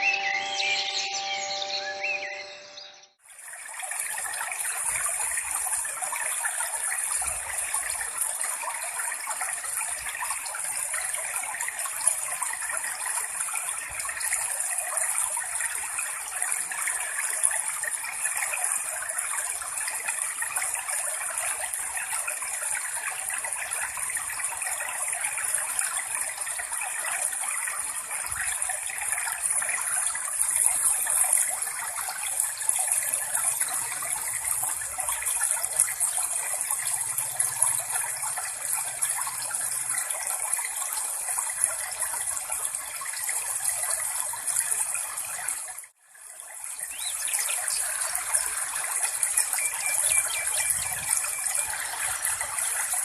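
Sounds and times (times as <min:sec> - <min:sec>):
rushing water: 0:03.2 - 0:53.0.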